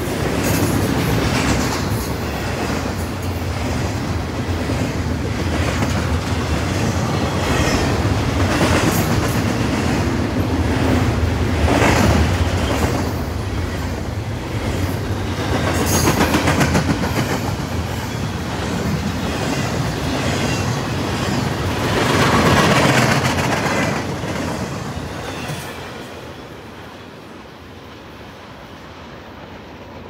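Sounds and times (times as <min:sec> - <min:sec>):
clickety-clack over rail joints: 0:00.0 - 0:26.0
freight train wheels on rails: 0:00.0 - 0:30.0.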